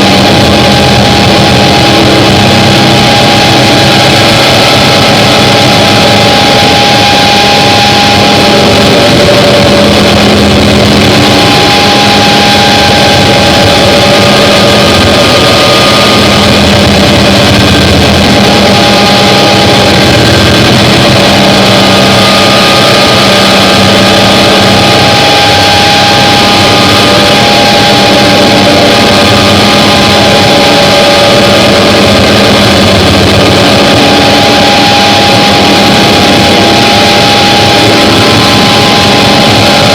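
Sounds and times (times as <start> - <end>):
distorted noise wall: 0.0 - 39.9
droning tones: 0.0 - 39.9.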